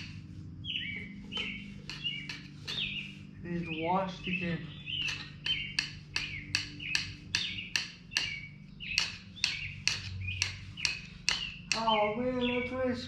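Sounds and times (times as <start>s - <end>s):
emery cloth rasping on metal: 0.0s - 12.1s.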